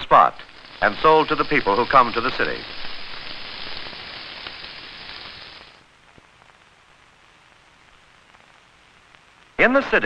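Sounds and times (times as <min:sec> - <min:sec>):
faint hiss: 0:00.0 - 0:10.0
fish sizzling in hot oil: 0:00.1 - 0:09.6.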